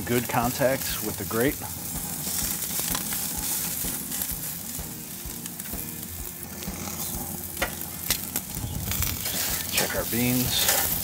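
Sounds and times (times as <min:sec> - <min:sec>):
steaks sizzling on grill: 0:00.0 - 0:11.0.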